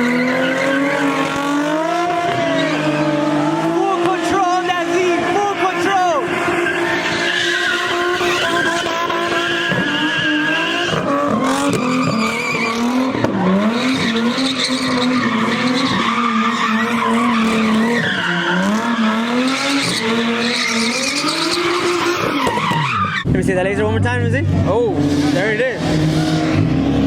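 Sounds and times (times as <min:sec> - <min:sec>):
tyres squealing: 0:00.0 - 0:23.3
car engine at high revs: 0:00.0 - 0:27.0.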